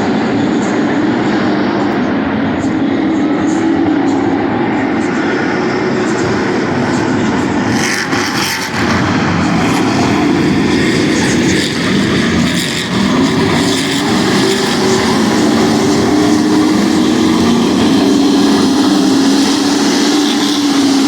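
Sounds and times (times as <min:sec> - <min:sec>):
racing truck engines revving: 0:00.0 - 0:21.0.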